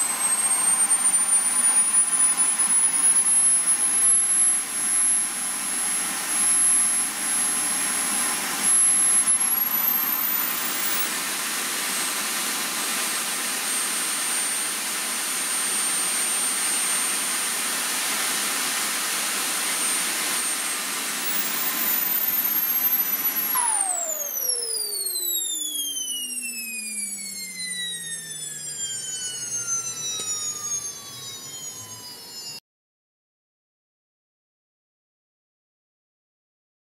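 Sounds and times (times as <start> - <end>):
jet turbine roaring and whining: 0.0 - 32.6.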